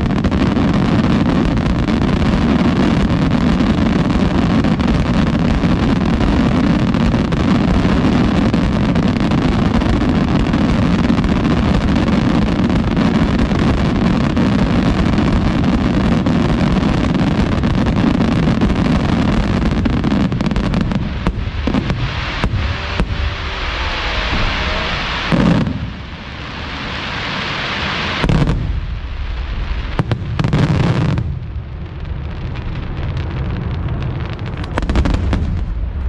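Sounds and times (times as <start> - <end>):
fireworks barrage: 0.0 - 36.0.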